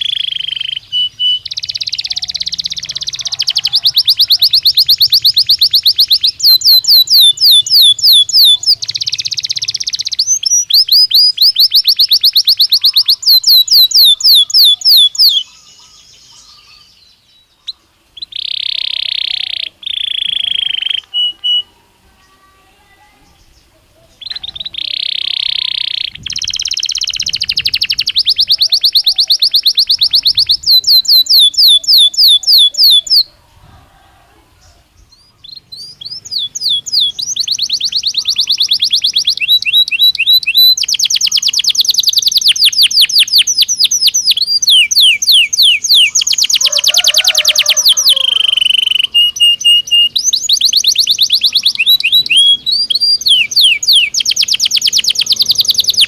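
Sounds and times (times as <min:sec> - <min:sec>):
canary singing in high trills: 0:00.0 - 0:56.0.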